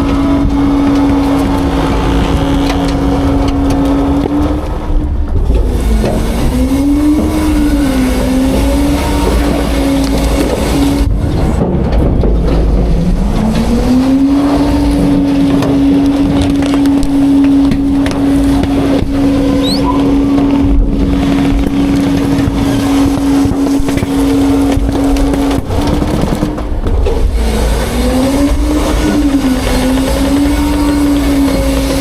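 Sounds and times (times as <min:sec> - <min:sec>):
truck diesel engine droning: 0:00.0 - 0:32.0.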